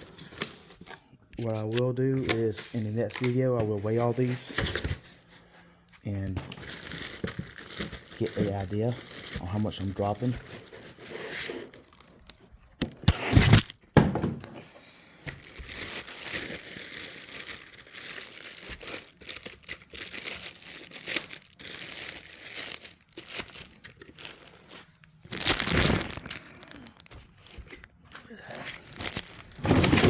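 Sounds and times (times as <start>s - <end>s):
packaging crinkling and tearing: 0.0s - 4.8s, 6.1s - 13.8s, 15.2s - 30.0s.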